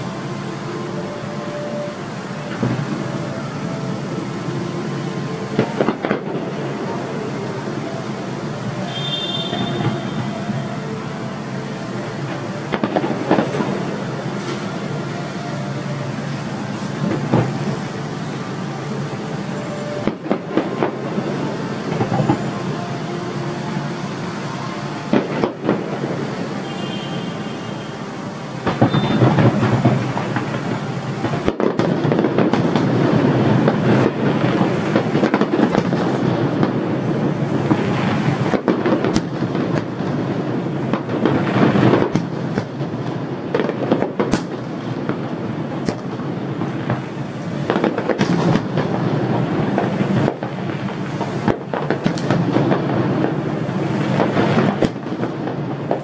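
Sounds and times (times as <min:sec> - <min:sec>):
fireworks bangs: 0:00.0 - 0:56.0
fireworks crackling bursts: 0:00.0 - 0:56.0
steady background noise: 0:00.0 - 0:56.0.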